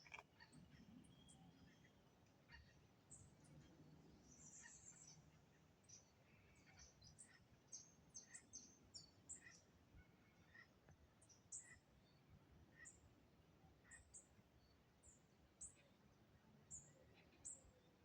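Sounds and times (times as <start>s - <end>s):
birds chirping and tweeting: 0.0s - 18.0s.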